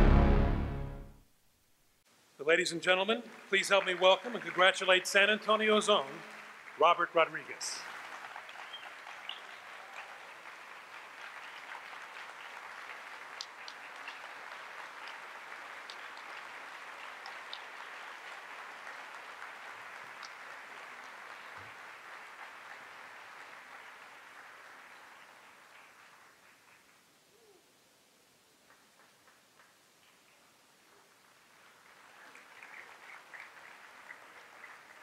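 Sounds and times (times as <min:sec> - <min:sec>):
audience applauding: 0:02.8 - 0:27.1, 0:28.6 - 0:35.0.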